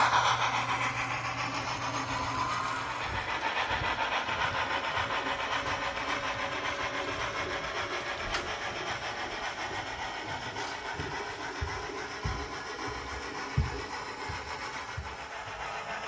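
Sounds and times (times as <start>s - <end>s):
model train rolling on track: 0.0s - 16.0s.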